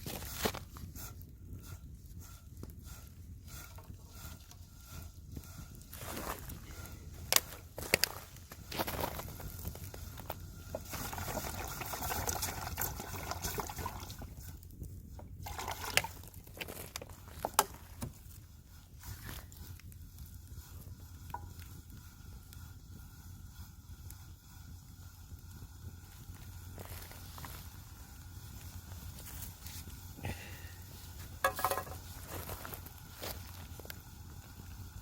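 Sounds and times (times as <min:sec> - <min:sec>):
campfire crackling and popping: 0:00.0 - 0:35.0
steady liquid sound: 0:00.0 - 0:35.0.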